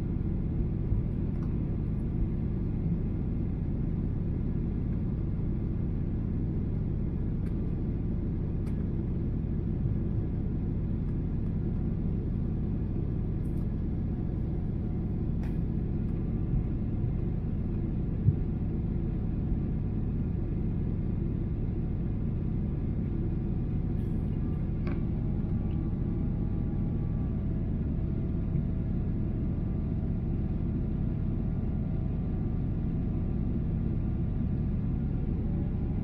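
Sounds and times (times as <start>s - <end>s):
airplane cabin drone: 0.0s - 36.0s.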